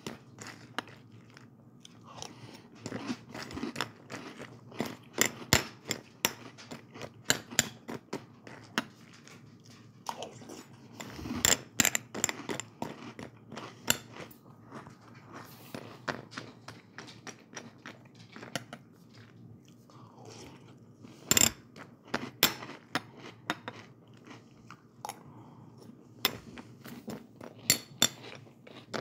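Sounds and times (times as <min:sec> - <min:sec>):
crunchy cereal being chewed: 0:00.0 - 0:29.0.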